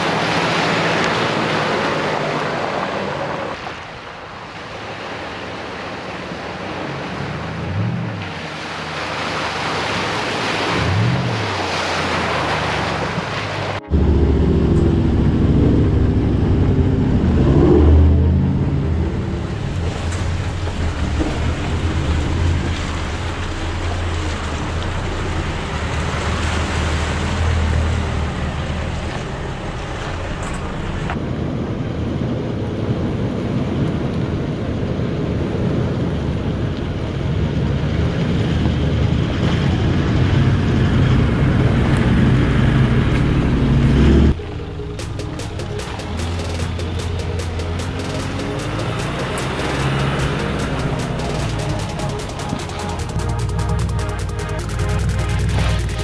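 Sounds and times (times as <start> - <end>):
vehicle engine drone: 0.0 - 3.8, 4.8 - 56.0.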